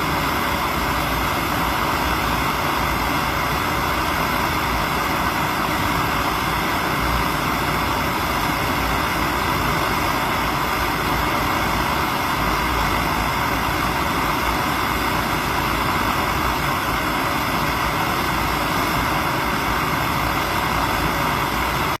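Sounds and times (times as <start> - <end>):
steady mechanical drone: 0.0 - 22.0.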